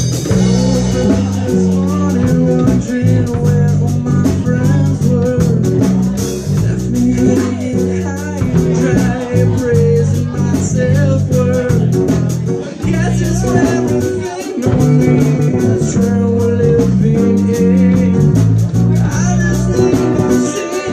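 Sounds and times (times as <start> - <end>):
bass guitar: 0.0 - 20.9
drum kit beat: 0.0 - 20.9
electric guitar: 0.0 - 20.9.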